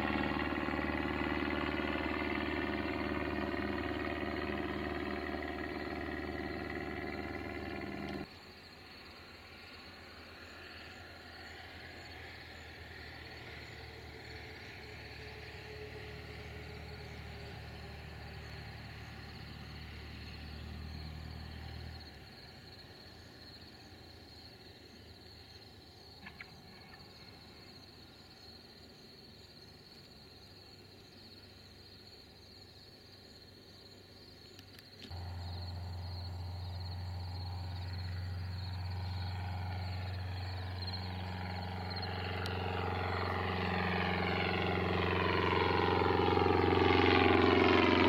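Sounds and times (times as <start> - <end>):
crickets chirping: 0.0 - 48.0
low plane engine drone: 0.0 - 48.0
plane engine droning overhead: 0.0 - 48.0.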